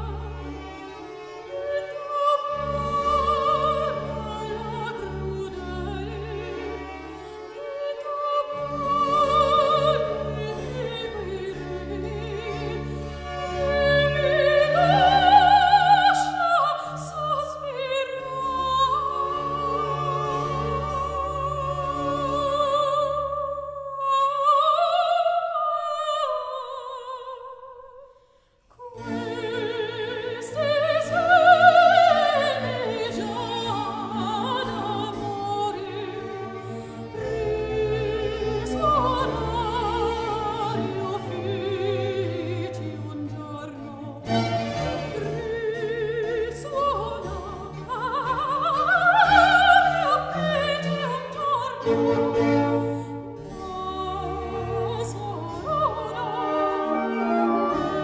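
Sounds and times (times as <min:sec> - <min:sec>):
small orchestra strings and keyboard: 0:00.0 - 0:26.2, 0:28.8 - 0:58.0
soprano singing opera aria: 0:00.0 - 0:58.0.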